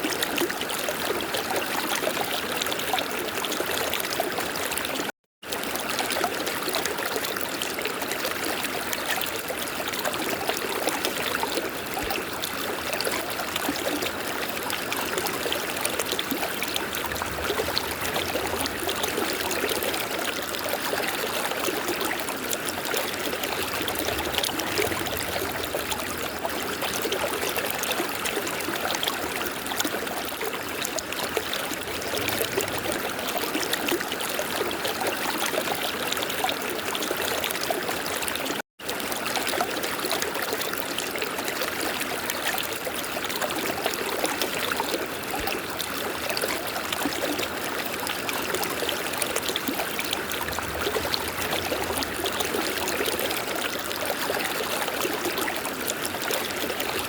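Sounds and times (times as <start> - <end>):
river water babbling: 2.0 - 57.0.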